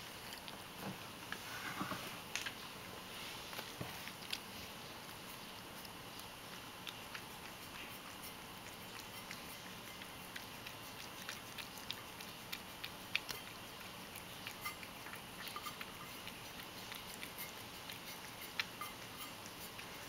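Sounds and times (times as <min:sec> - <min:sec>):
cat lapping milk: 0:00.0 - 0:01.5, 0:02.2 - 0:20.0.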